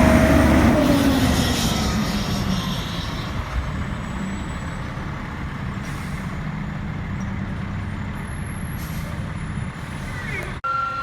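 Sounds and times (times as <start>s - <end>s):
heavy vehicle engine rumble: 0.0s - 11.0s
road noise: 0.0s - 11.0s.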